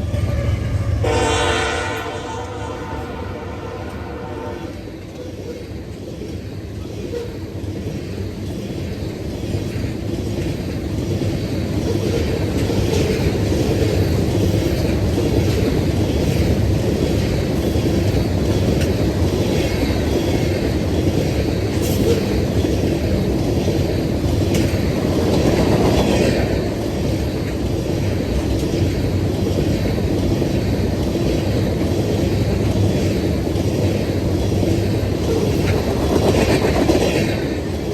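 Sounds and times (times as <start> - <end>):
train rumbling past: 0.0 - 37.9
wheels clacking over rail joints: 4.9 - 37.9.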